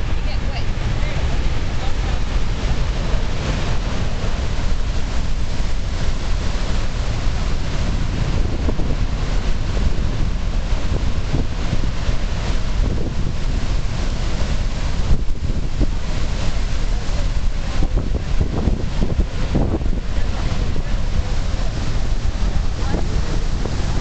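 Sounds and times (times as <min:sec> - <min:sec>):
waterfall rushing: 0:00.0 - 0:24.0
wind rumble on microphone: 0:00.0 - 0:24.0.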